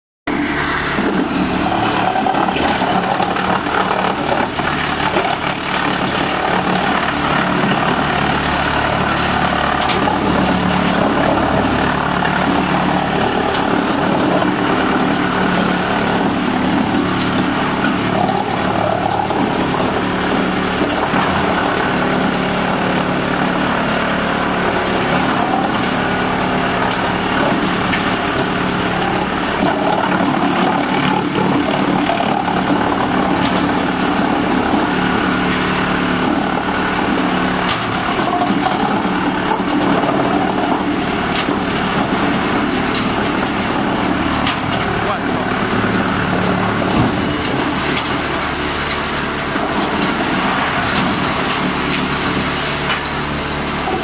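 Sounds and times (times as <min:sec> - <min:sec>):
wood chipper machine drone: 0:00.3 - 0:54.0.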